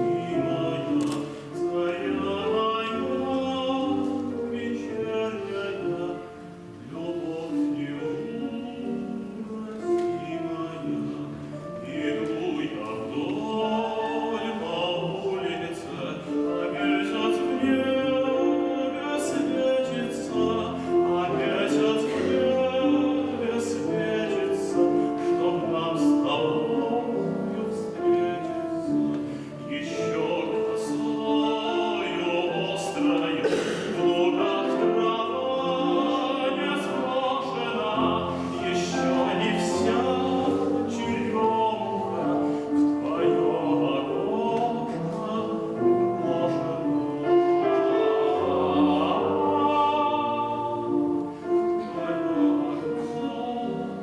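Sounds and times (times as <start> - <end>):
operatic singing with instruments: 0.0 - 54.0.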